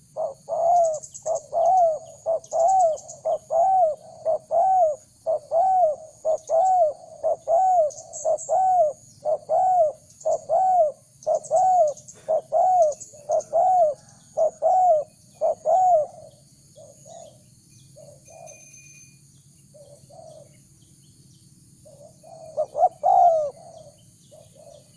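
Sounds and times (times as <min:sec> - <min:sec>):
dove cooing: 0:00.0 - 0:18.7, 0:19.7 - 0:20.6, 0:21.8 - 0:24.9
faint high chirping: 0:00.0 - 0:24.9.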